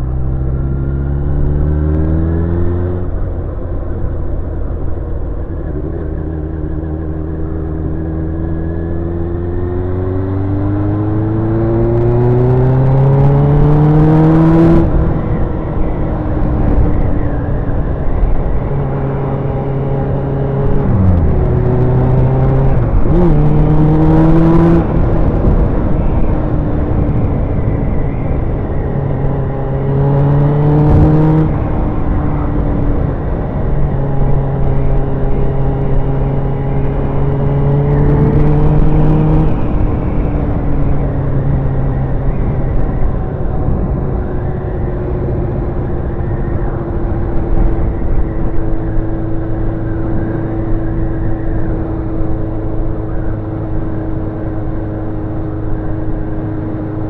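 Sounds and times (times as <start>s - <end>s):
wind noise: 0.0s - 57.0s
motorcycle engine revving: 5.4s - 57.0s.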